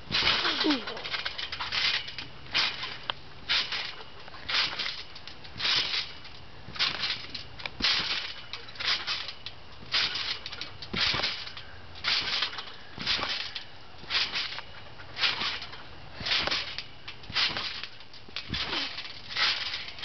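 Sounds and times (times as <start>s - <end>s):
trampoline springs creaking: 0.0s - 20.0s.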